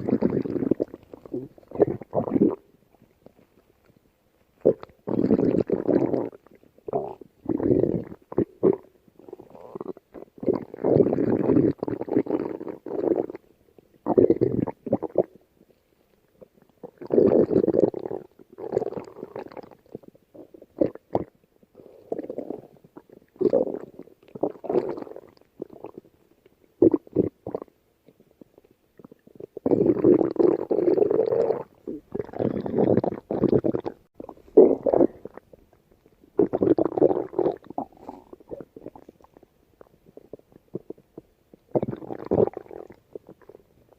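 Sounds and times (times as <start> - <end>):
stomach growling: 0.0 - 4.0, 4.6 - 15.7, 16.3 - 43.9.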